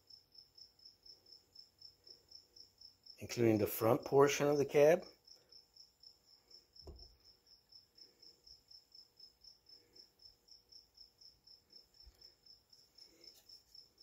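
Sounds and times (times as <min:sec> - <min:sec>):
cricket chirping: 0:00.0 - 0:03.2, 0:05.1 - 0:14.0.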